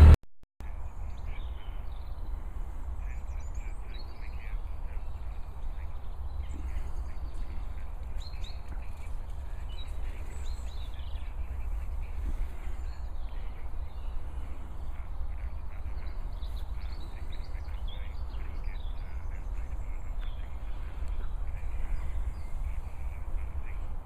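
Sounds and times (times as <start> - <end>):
low microphone rumble: 0.0 - 24.0
birds chirping and calling: 0.6 - 24.0.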